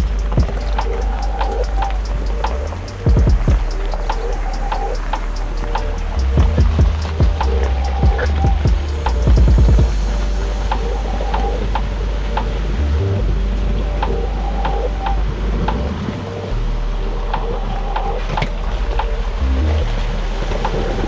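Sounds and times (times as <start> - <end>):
background music with steady beat: 0.0 - 21.0.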